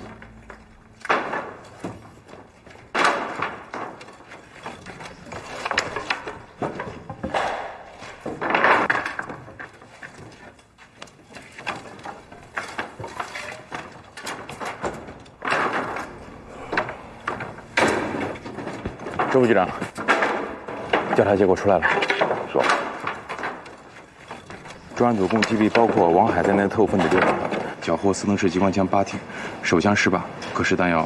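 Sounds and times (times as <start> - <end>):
wooden planks and rubble clattering: 0.0 - 31.0.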